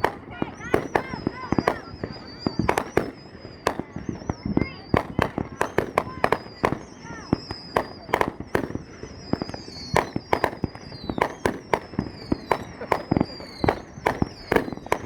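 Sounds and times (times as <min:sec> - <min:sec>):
falling firework whistles: 0:00.0 - 0:15.0
fireworks banging: 0:00.0 - 0:15.0.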